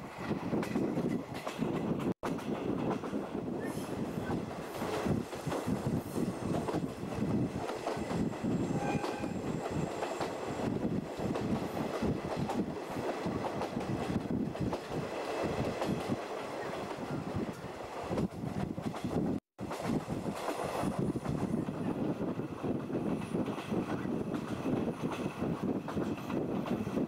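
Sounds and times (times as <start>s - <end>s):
train coach rumbling: 0.0s - 27.0s.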